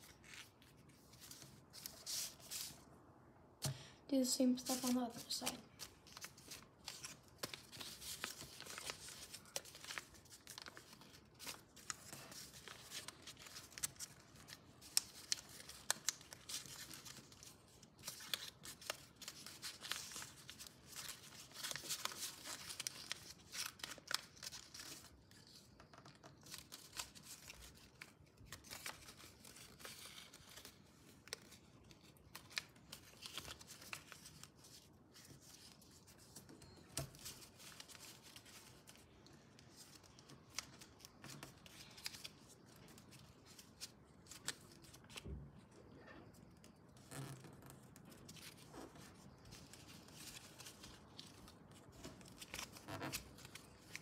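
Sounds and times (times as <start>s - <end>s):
paper rustling and creasing: 0.0s - 2.9s, 4.4s - 45.3s, 46.2s - 54.0s.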